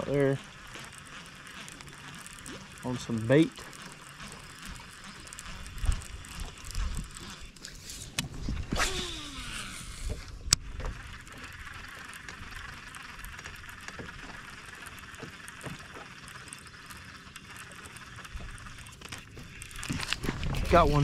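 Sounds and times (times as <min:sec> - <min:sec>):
fishing reel spool whirring: 0:00.0 - 0:21.0
reel cranking whir: 0:00.0 - 0:21.0
reel engaging click: 0:00.0 - 0:21.0.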